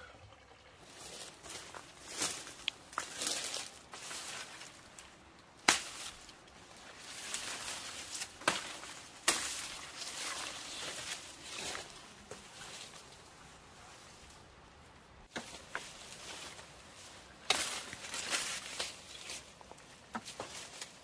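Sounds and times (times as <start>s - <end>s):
rustling and handling noises: 0.9s - 21.0s.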